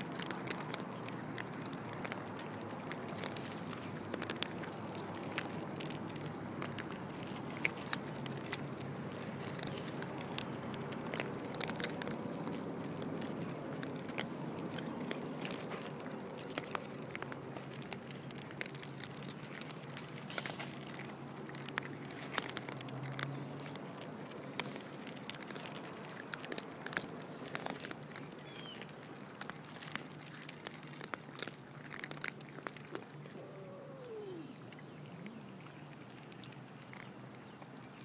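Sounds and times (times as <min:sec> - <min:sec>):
cats crunching dry food: 0:00.0 - 0:38.0.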